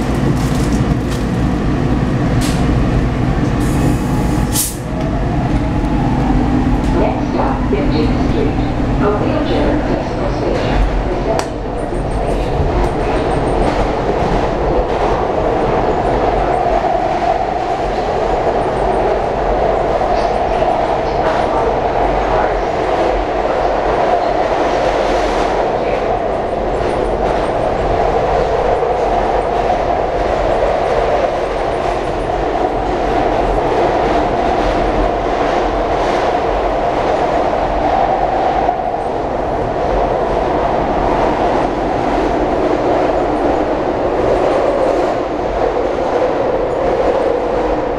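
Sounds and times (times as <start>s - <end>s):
train wheels running on rails: 0.0s - 47.9s.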